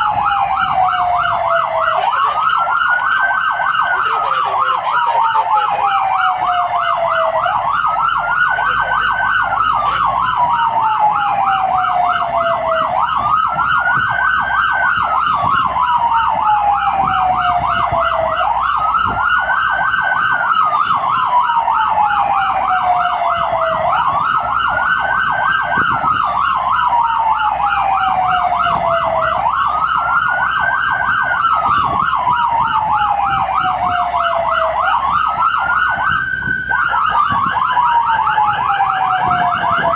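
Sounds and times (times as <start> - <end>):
fast warbling siren tone: 0.0 - 39.9
fire engine siren wail: 0.0 - 39.9.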